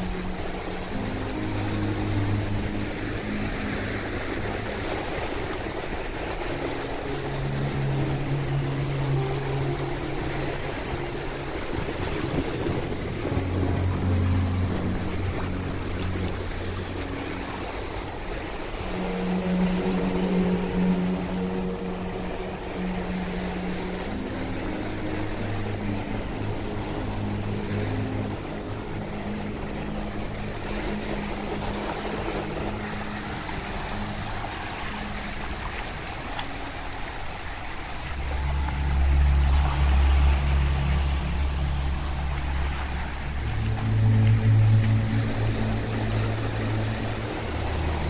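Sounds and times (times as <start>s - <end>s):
low steady drone: 0.0s - 48.0s
small waves washing on sand: 0.0s - 48.0s.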